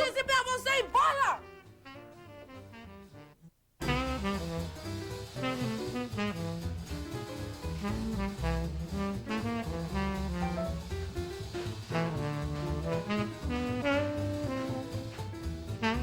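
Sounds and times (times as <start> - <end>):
upbeat jazz music: 0.0 - 16.0.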